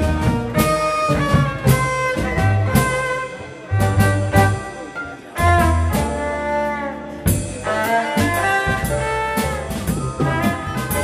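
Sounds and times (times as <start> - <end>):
double bass: 0.0 - 11.0
drums: 0.0 - 11.0
keyboards: 0.0 - 11.0
violin: 0.0 - 11.0.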